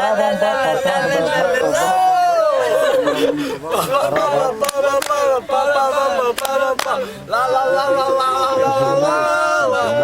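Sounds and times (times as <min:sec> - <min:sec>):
people singing: 0:00.0 - 0:10.0.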